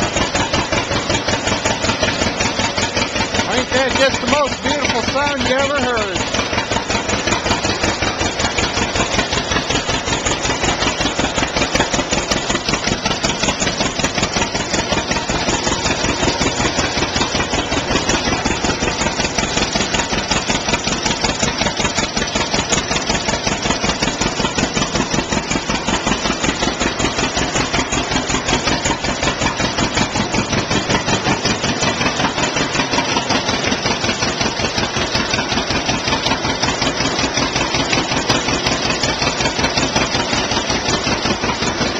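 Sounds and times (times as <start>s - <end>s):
tractor engine idling: 0.0s - 41.9s.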